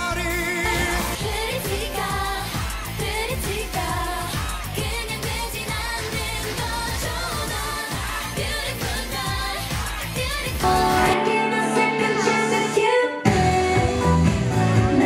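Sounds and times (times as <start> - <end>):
pop song singing over beat: 0.0 - 15.0.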